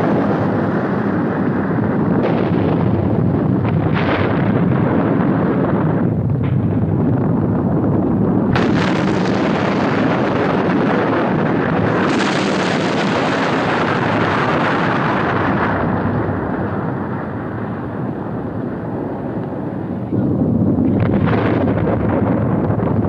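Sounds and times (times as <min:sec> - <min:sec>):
volcanic eruption rumbling blast: 0:00.0 - 0:23.0.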